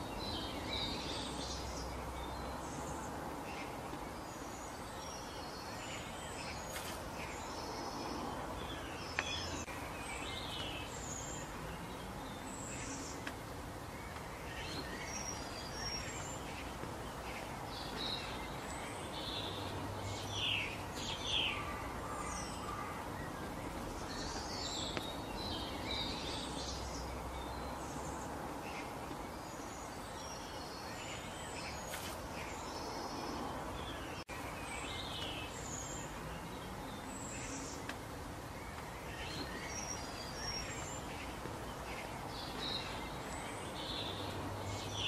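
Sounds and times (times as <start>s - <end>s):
birds chirping and calling: 0.0s - 45.0s
outdoor background hiss: 0.0s - 45.0s.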